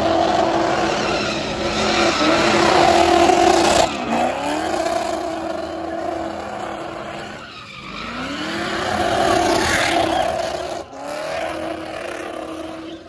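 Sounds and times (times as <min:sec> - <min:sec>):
car engine at high revs: 0:00.0 - 0:13.0
tyres squealing on pavement: 0:00.0 - 0:13.0.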